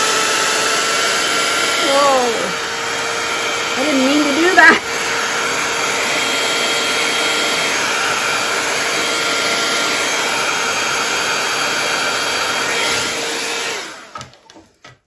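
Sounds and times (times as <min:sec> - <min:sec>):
electric air blower running: 0:00.0 - 0:14.4.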